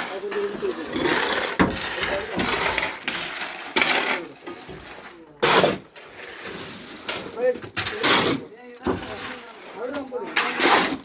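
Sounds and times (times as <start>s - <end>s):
rough scraping and clinking: 0.0s - 11.0s.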